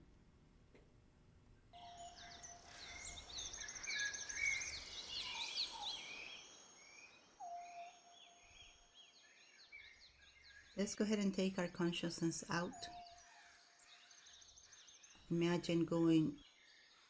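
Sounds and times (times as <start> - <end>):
birds singing and chirping: 1.8 - 17.0.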